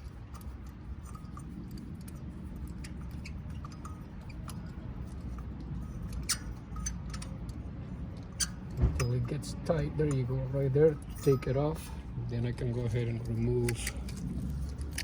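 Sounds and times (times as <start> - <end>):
small metallic clicks and scrapes: 0.0 - 15.0.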